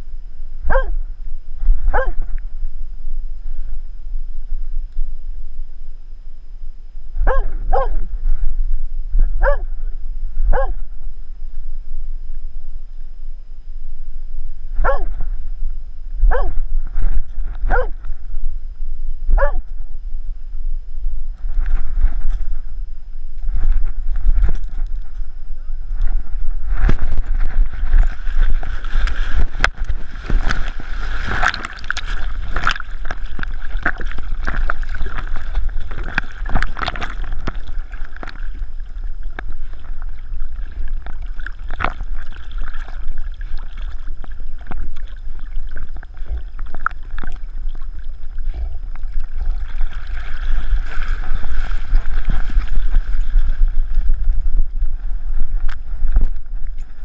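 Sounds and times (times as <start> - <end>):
water sloshing and gurgling: 6.6 - 57.0.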